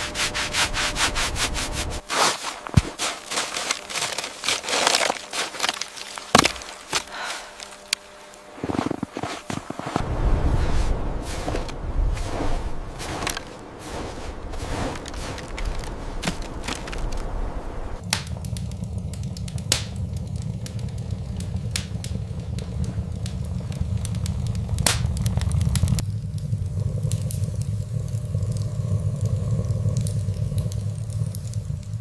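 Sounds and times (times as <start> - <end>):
wood fire crackling and popping: 0.4 - 32.0
steady low rumble: 6.1 - 32.0.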